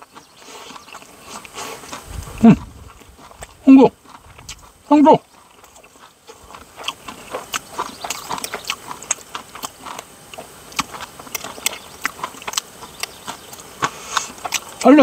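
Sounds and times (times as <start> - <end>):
chewing crispy fried fish: 0.0 - 15.0.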